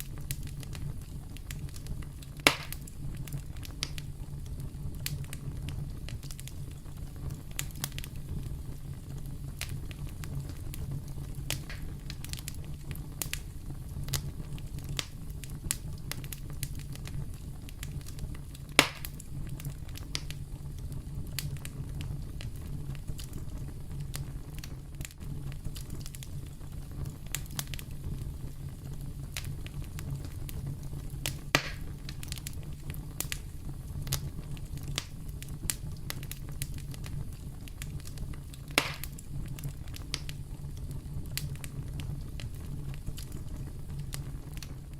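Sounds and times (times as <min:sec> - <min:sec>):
campfire crackling: 0:00.0 - 0:44.9
loud fire pops: 0:00.0 - 0:44.9.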